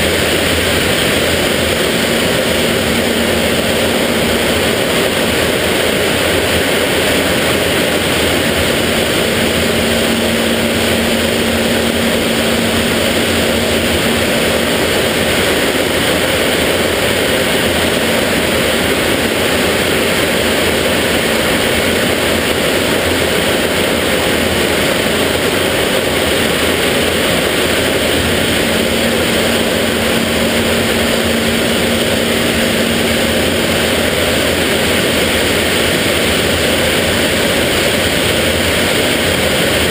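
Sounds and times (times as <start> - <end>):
jet engine and airflow roar: 0.0 - 39.9.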